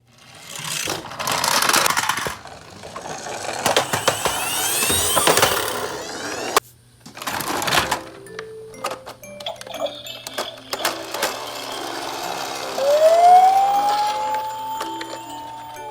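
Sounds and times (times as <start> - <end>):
toy vehicles whirring and rattling: 0.0 - 8.2, 8.8 - 15.9.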